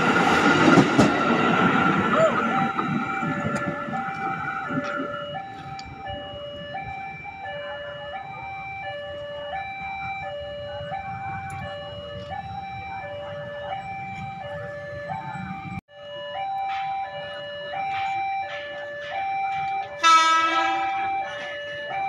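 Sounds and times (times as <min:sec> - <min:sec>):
traffic rumble: 0:00.0 - 0:20.1
electric train departing: 0:00.0 - 0:22.0
level crossing two-tone alarm: 0:00.0 - 0:22.0.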